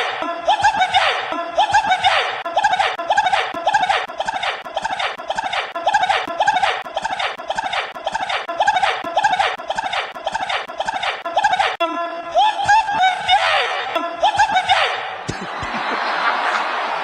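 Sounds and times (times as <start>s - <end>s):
looped man's voice stutter edit: 0.0s - 15.0s.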